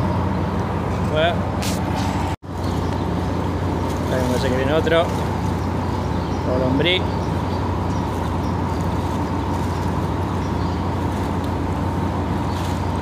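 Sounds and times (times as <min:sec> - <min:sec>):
faint constant whine: 0:00.0 - 0:13.0
low machinery hum: 0:00.0 - 0:13.0.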